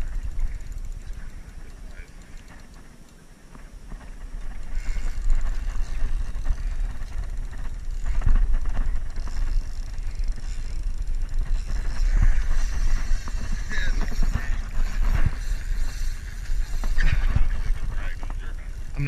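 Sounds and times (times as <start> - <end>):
fishing reel ticking: 0.0 - 19.0.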